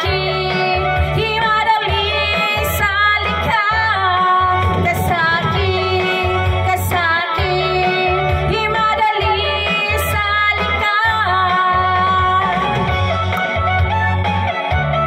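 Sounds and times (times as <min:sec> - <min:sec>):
woman singing into a microphone: 0:00.0 - 0:13.9
backing music with bass line: 0:00.0 - 0:15.0.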